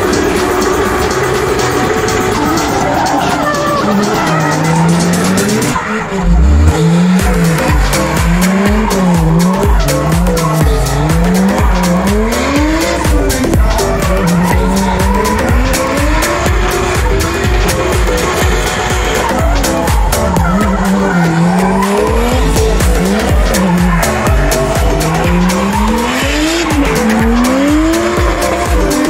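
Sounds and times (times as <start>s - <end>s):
car engine revving: 0.0s - 29.0s
tyres squealing on asphalt: 0.0s - 29.0s.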